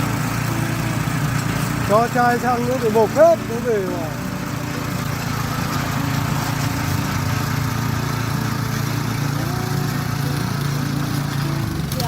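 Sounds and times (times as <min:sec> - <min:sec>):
tiller engine running: 0:00.0 - 0:12.0.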